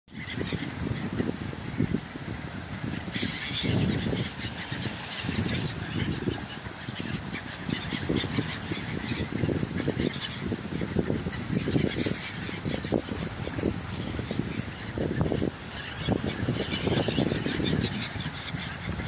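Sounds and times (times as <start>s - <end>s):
gulls calling: 0.1s - 19.0s.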